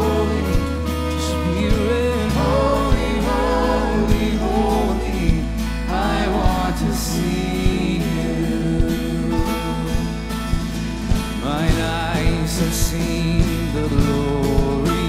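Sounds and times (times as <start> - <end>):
acoustic guitar: 0.0 - 15.0
electric bass: 0.0 - 15.0
man singing lead vocal: 0.0 - 15.0
steady drum beat: 0.0 - 15.0.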